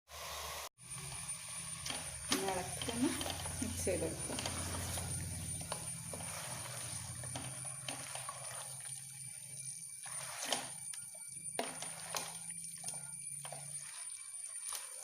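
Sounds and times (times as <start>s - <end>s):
chicken sizzling in oil: 0.1s - 15.0s.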